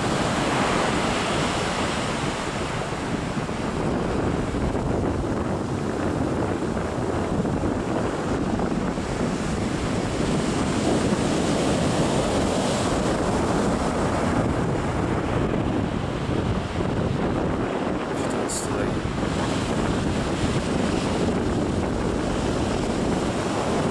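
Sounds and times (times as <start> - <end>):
ocean waves breaking: 0.0 - 23.9
wind buffeting microphone: 0.0 - 23.9.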